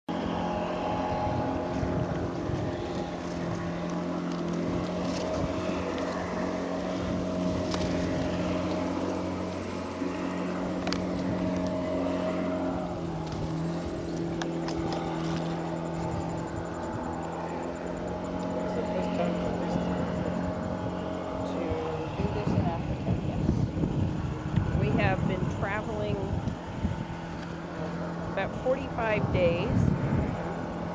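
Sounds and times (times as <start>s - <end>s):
engine hum: 0.0s - 30.9s
reeds brushing along a hull: 0.1s - 30.9s.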